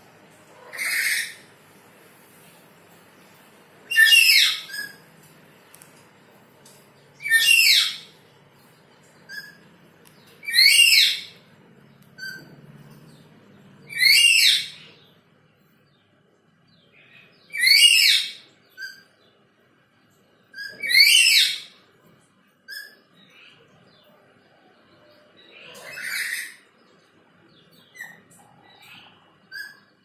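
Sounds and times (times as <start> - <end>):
soft bird chirps: 2.2 - 19.4, 20.0 - 30.0.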